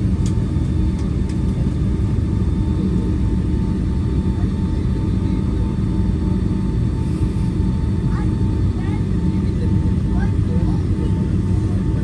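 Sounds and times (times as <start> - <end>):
aircraft cabin rumble: 0.0 - 12.0.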